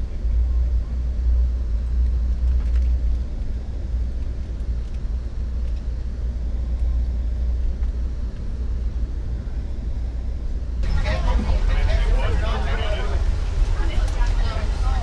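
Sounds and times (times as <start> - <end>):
train car rumble: 0.0 - 15.0.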